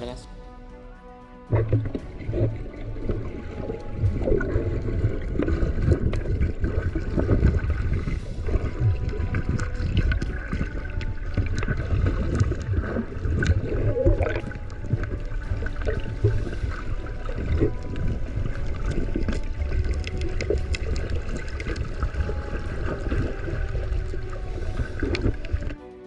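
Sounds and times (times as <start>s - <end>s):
underwater churning water rumble: 1.4s - 25.8s
small clicks and crackles: 3.7s - 25.8s.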